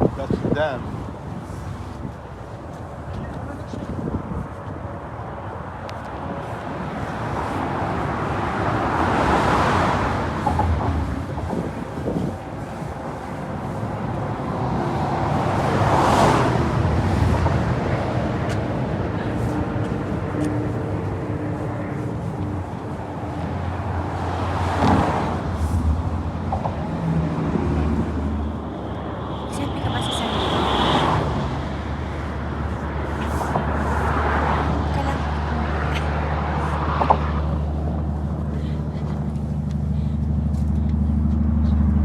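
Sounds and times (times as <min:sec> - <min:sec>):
low engine hum: 0:00.0 - 0:42.0
vehicles passing: 0:00.0 - 0:42.0.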